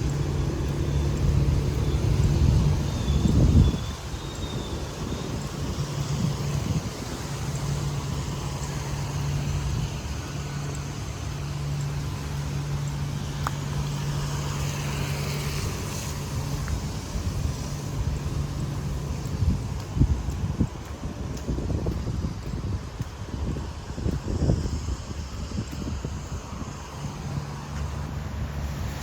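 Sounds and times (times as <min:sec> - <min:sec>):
engine running close by: 0:00.0 - 0:29.0
street traffic: 0:00.0 - 0:29.0.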